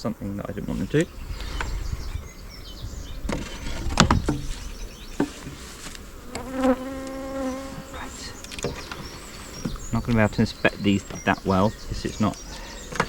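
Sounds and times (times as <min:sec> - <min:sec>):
honeybees buzzing at hive: 0:00.0 - 0:13.0
bee buzzing close to microphone: 0:00.6 - 0:12.9.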